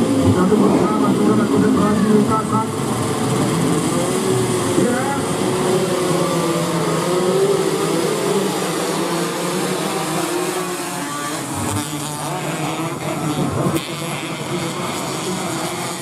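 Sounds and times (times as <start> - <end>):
race motorcycles at high revs: 0.0 - 16.0.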